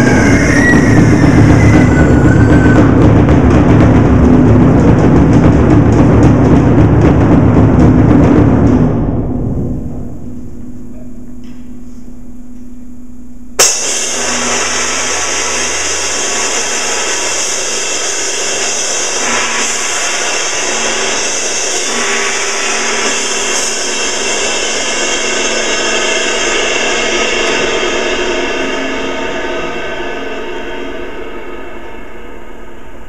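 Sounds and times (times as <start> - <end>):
percussion ensemble playing: 0.0 - 10.1, 13.6 - 32.7
loud cymbal crash: 0.0 - 12.3, 13.6 - 33.0.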